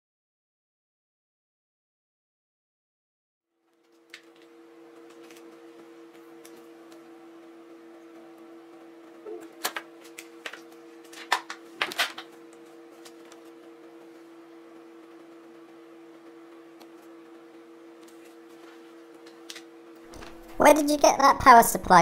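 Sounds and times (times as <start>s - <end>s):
steady low hum: 3.7s - 22.0s.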